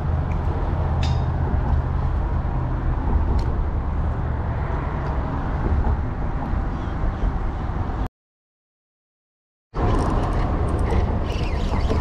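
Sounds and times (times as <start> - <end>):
road traffic rumble: 0.0 - 8.1, 9.7 - 12.0.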